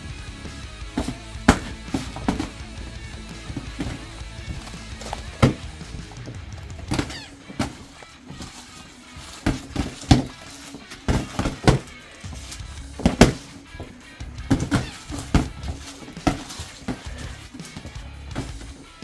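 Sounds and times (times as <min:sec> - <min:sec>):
background music: 0:00.0 - 0:19.0
boxing glove punches thudding: 0:01.0 - 0:18.8.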